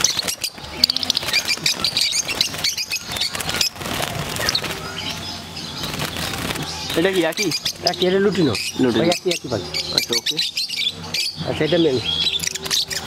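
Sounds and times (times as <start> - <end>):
lovebirds chirping and chattering: 0.0 - 13.0.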